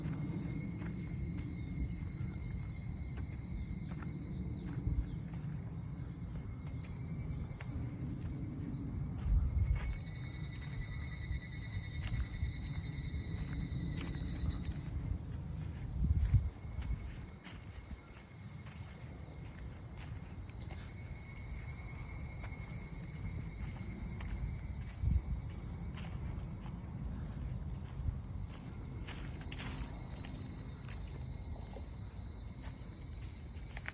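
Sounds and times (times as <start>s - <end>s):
insects chorus: 0.0s - 33.9s
low-pitched insect trill: 0.0s - 33.9s.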